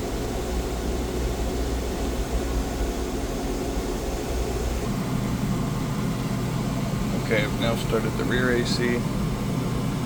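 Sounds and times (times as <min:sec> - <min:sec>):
air conditioner rushing and humming: 0:00.0 - 0:10.0.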